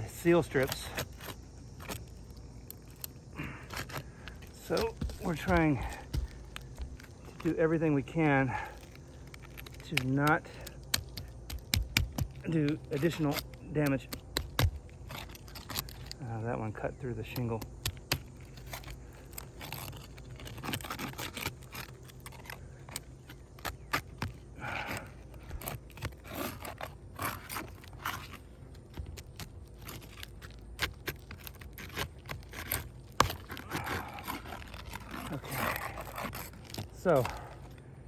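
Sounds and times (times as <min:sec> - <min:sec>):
tool scraping between shingles: 0:00.0 - 0:37.8.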